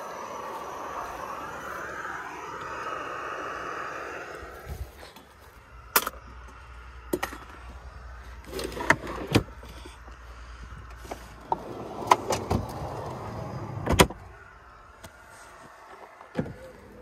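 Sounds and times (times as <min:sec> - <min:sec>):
gas stove burner hissing: 0:00.0 - 0:08.7, 0:09.4 - 0:17.0.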